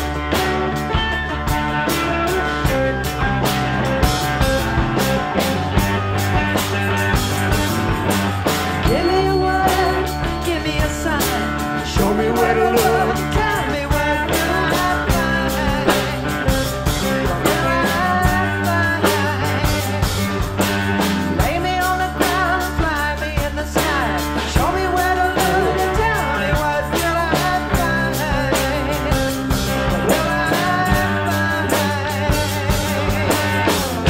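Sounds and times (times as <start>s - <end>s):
rock band playing: 0.0s - 34.0s
steady drum beat: 0.0s - 34.0s.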